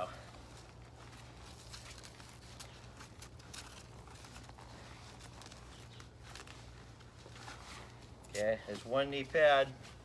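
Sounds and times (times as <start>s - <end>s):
knee pad scratching and rustling: 0.5s - 10.0s.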